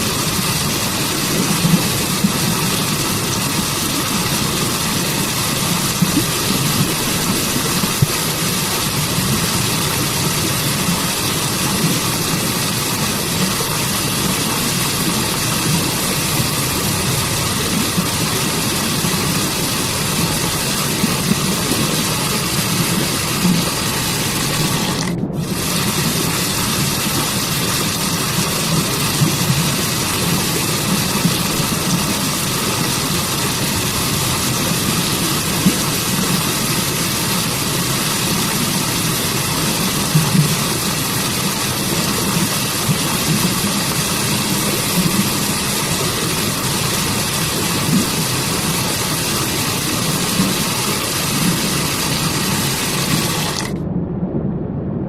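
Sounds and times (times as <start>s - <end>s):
stream water rushing: 0.0s - 53.8s.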